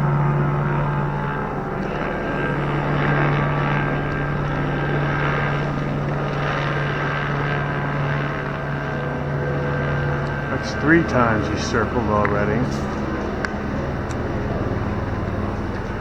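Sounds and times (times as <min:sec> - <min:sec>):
helicopter drone: 0:00.0 - 0:16.0.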